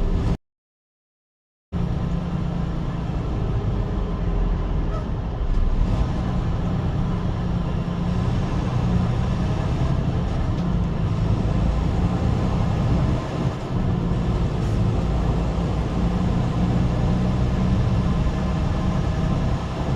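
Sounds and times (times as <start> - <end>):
truck driving rumble: 0.0 - 0.4, 1.8 - 19.9.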